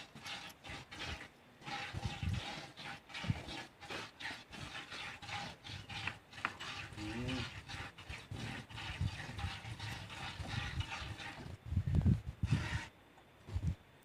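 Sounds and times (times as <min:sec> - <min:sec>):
milk squirting into pail: 0:00.0 - 0:11.6
cow lowing: 0:00.1 - 0:11.6.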